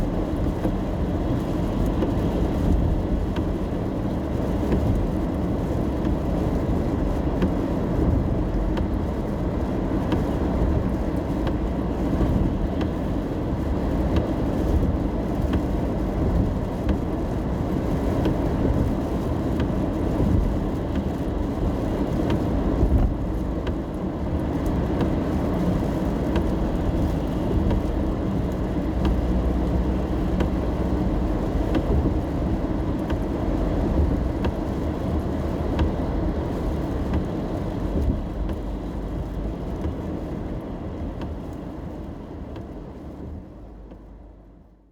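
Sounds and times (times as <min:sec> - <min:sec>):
faint rain ticks: 0:00.0 - 0:44.8
road and engine rumble: 0:00.0 - 0:44.9.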